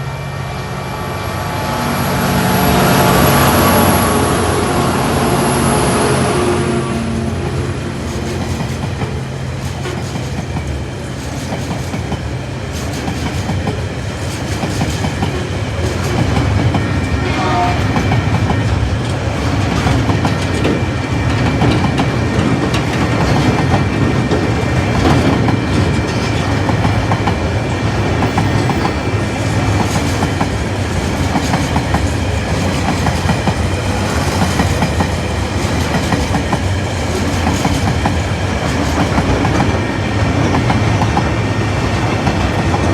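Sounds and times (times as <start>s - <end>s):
train wheels clacking over rail joints: 8.0s - 42.9s.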